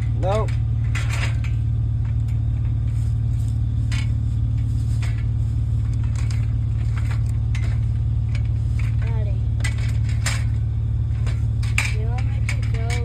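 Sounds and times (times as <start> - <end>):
light clinks and knocks: 0.0 - 13.0
vehicle engine idling: 0.0 - 13.0.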